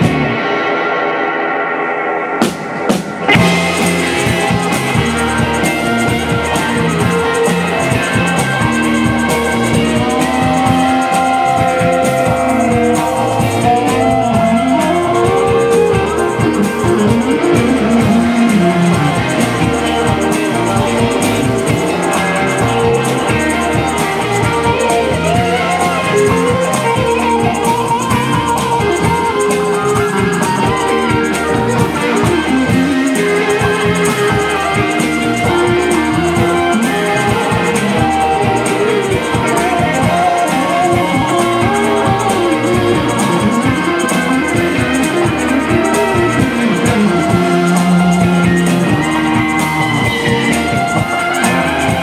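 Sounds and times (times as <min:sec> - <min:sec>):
live rock band playing: 0:00.0 - 0:52.0
bending sliding guitar lines: 0:02.4 - 0:52.0.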